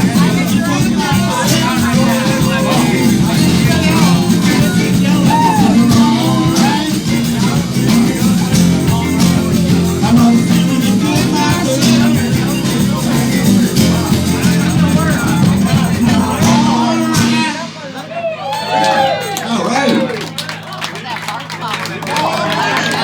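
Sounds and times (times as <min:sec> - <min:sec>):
bass line: 0:00.0 - 0:19.2
live band playing: 0:00.0 - 0:19.4.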